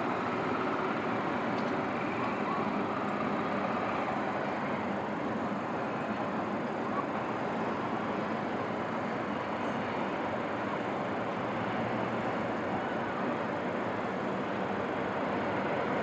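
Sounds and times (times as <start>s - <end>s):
distant city traffic hum: 0.0s - 16.0s.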